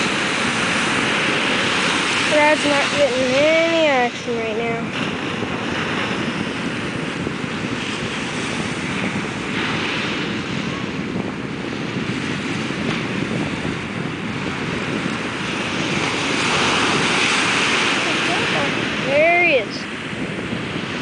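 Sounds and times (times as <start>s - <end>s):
waves breaking on sand: 0.0s - 21.0s
wind on microphone: 0.0s - 21.0s.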